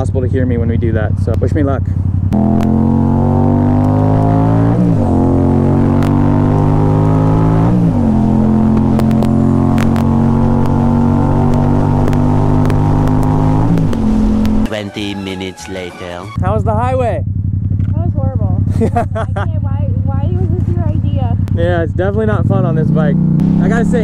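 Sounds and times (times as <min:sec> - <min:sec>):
motorcycle engine accelerating: 0:00.0 - 0:15.2, 0:16.2 - 0:24.0.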